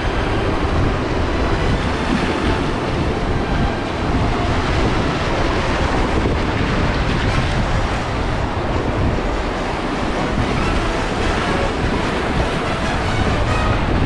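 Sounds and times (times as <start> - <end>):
whitewater rapids rushing: 0.0 - 14.0.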